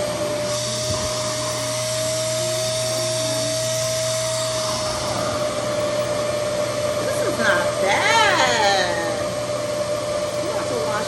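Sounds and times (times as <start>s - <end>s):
hair dryer whining: 0.0s - 11.0s.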